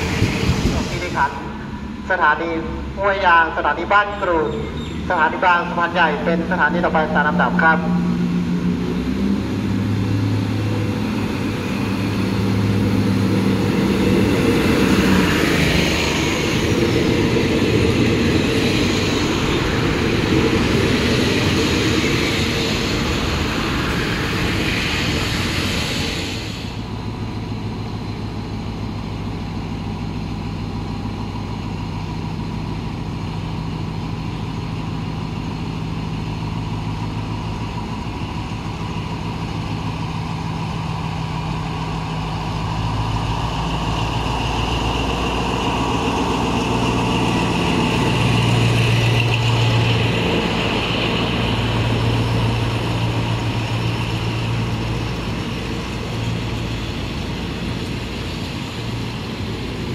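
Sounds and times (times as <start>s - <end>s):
diesel train engine running: 0.0s - 59.9s.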